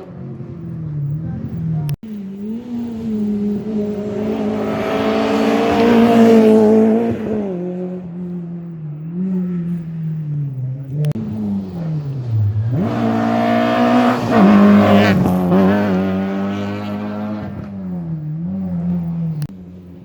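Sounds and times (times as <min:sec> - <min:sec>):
rally car engine passing: 0:00.0 - 0:20.0.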